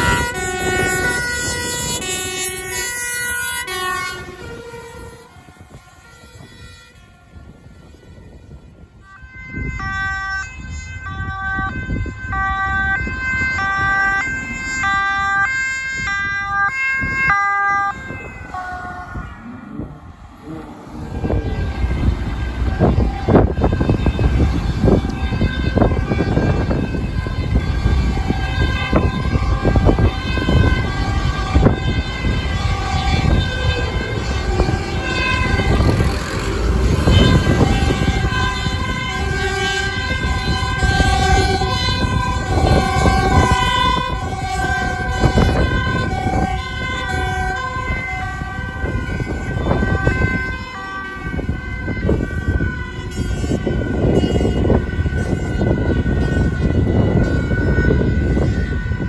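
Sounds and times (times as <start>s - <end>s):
road traffic rumble: 0.0s - 59.0s
two-tone emergency sirens: 0.0s - 59.0s.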